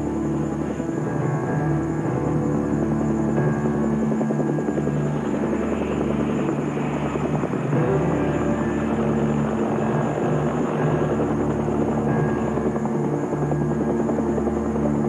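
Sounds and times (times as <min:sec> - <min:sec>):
helicopter rotors and turbines: 0:00.0 - 0:15.0.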